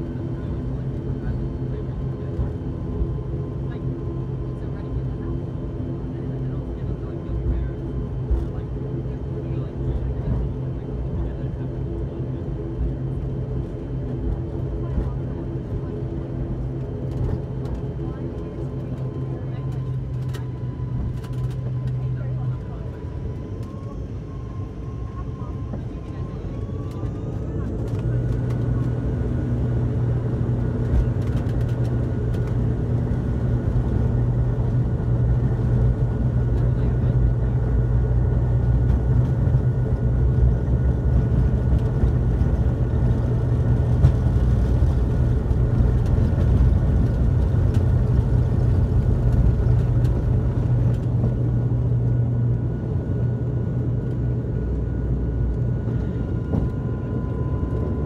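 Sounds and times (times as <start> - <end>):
high engine whine: 0.0 - 58.0
turboprop engines low drone: 0.0 - 58.0.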